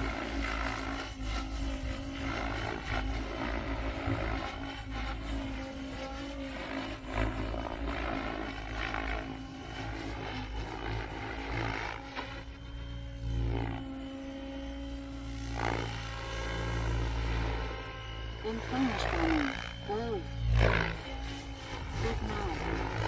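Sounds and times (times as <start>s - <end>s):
model helicopter rotor whine: 0.0s - 23.0s.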